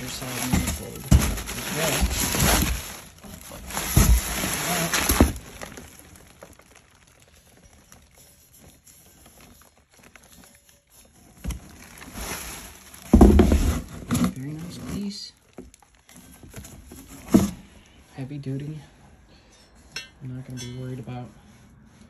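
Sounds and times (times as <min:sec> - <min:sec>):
bubble wrap and paper crinkling: 0:00.0 - 0:18.1.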